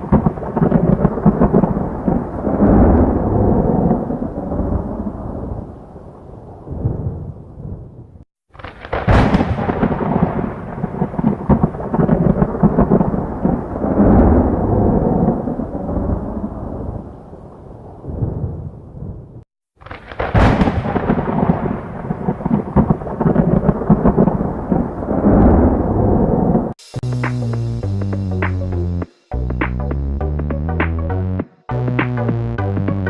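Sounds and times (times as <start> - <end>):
thunder rumbling: 0.0 - 26.8
sharp thunder crack: 0.0 - 27.6.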